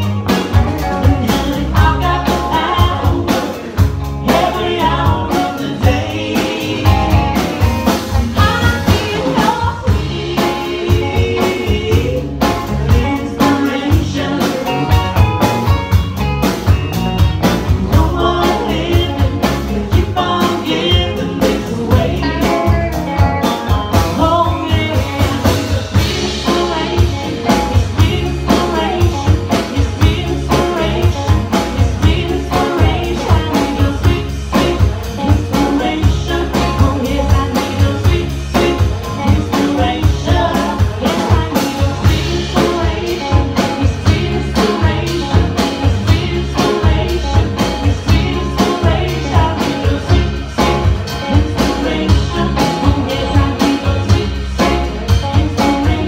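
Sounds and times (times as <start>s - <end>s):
person singing: 0.0s - 15.8s, 17.6s - 56.0s
band playing rock song: 0.0s - 56.0s
bass: 0.0s - 56.0s
drum beat: 0.0s - 56.0s.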